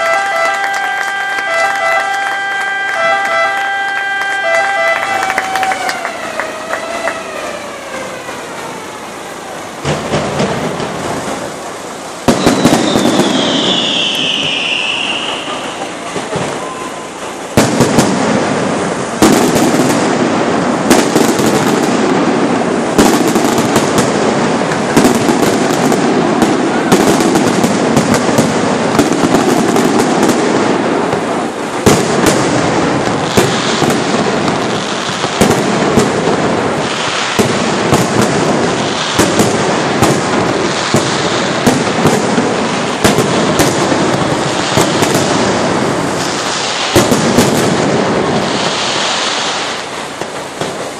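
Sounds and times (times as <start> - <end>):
fireworks crackling and banging: 0.0 - 50.9
loud firework reports: 0.0 - 50.9.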